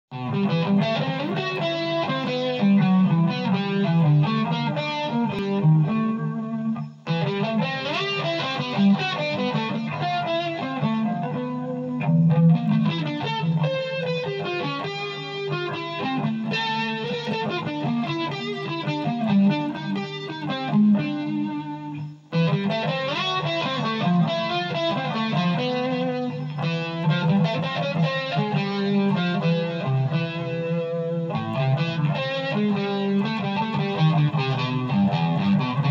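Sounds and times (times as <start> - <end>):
distorted electric guitar: 0.1 - 35.9.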